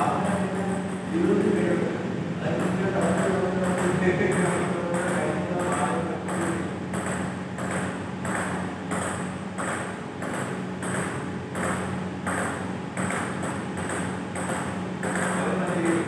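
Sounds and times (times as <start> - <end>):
table tennis ball clicks: 2.6 - 16.0.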